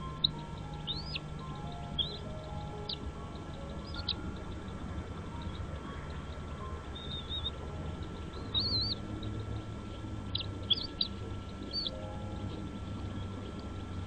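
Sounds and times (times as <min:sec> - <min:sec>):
bird chirping: 0:00.0 - 0:14.0
steady low background noise: 0:00.0 - 0:14.0.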